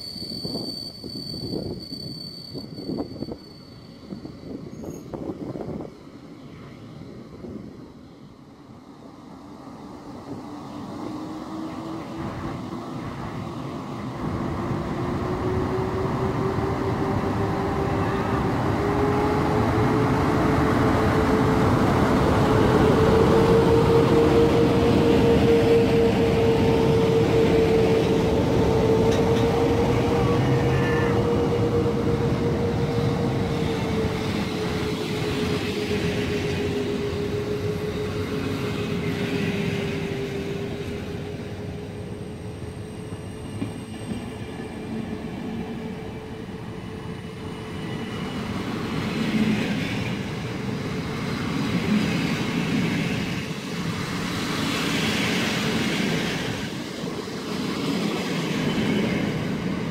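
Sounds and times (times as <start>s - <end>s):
electric locomotive whine: 0.0s - 59.9s
train coaches rolling past: 0.0s - 59.9s.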